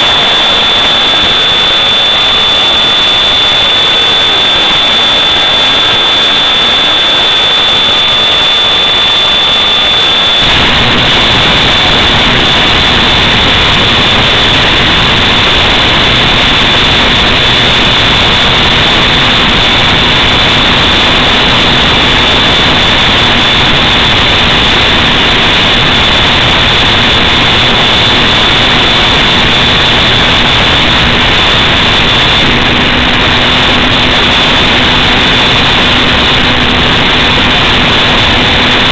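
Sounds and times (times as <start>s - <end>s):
rushing hiss with high whine: 0.0s - 38.9s.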